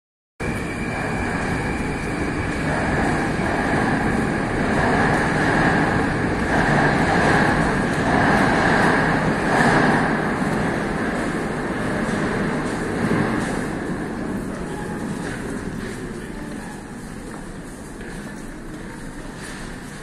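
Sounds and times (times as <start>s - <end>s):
metro train rumble and whine: 0.4s - 20.0s.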